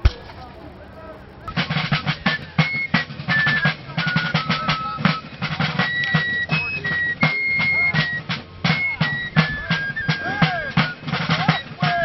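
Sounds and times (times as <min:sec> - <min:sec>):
rapid side-drum strokes: 0:00.0 - 0:12.0
high fife melody: 0:01.5 - 0:12.0.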